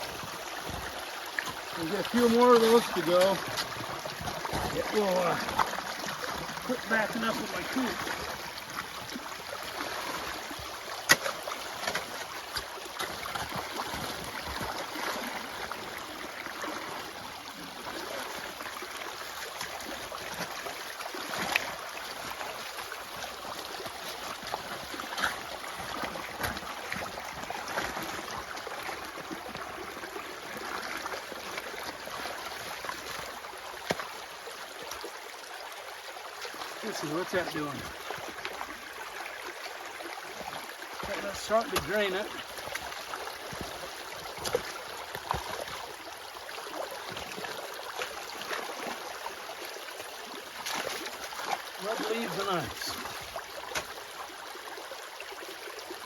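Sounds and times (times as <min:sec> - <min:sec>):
water running along a ditch: 0:00.0 - 0:56.0.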